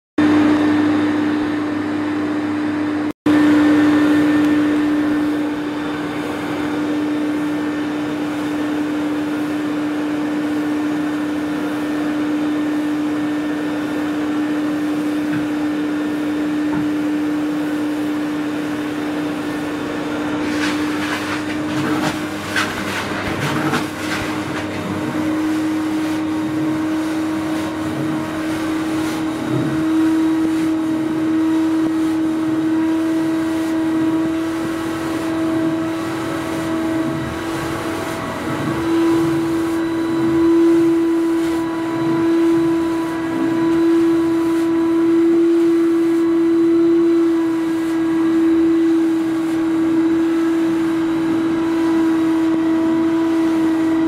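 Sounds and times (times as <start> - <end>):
vacuum motor droning: 0.2 - 54.0.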